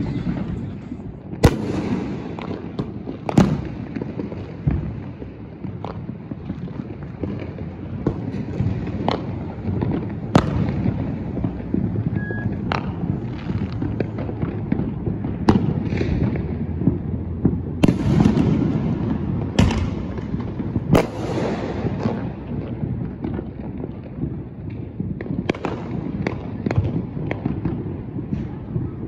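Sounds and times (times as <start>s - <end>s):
distant fireworks rumble: 0.0s - 29.0s
loud fireworks cracks: 0.0s - 29.0s.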